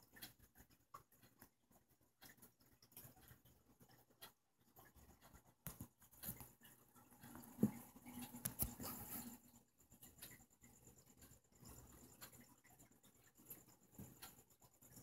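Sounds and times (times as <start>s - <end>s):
faint ticks and scratching: 0.0s - 15.0s.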